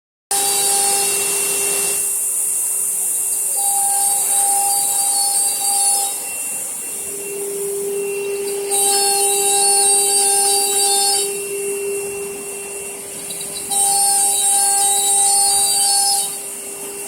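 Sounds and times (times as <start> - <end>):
cnc router running: 0.3 - 17.0.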